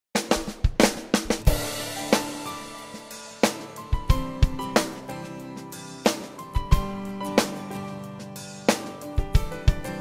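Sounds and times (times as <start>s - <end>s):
drum fill: 0.2s - 10.0s.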